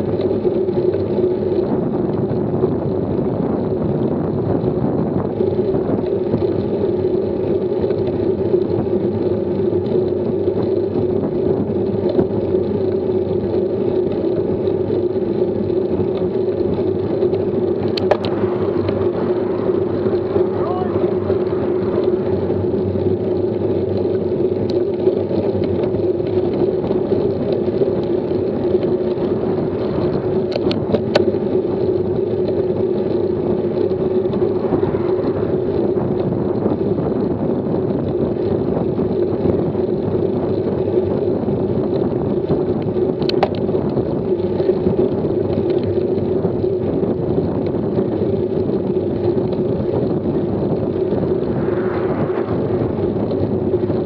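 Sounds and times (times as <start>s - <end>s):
bike road noise: 0.0s - 54.0s
rushing wind: 0.0s - 54.0s.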